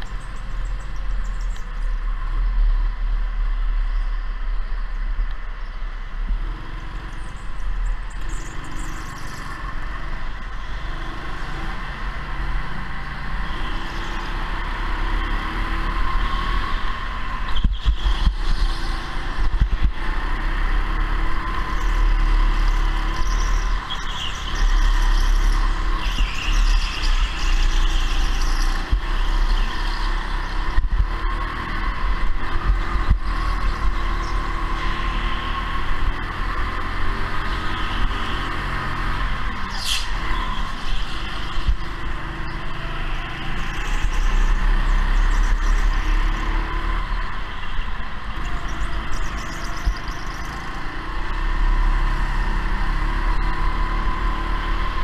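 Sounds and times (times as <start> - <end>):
go-kart motor running: 6.2 - 55.0.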